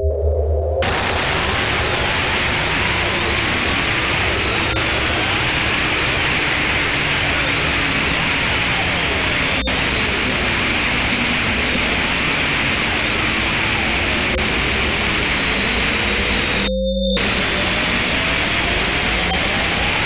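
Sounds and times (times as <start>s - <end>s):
gliding electronic tones: 0.0s - 20.0s
steady high tones: 0.0s - 20.0s
synthesized dense hiss: 0.8s - 20.0s.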